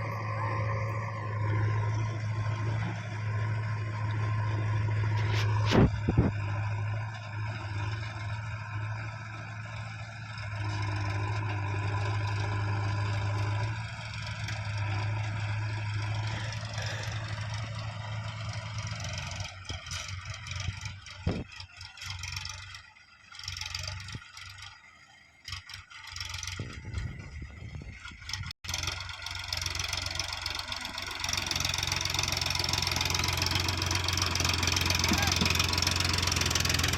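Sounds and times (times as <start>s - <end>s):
heavy diesel engine running: 0.0s - 36.9s.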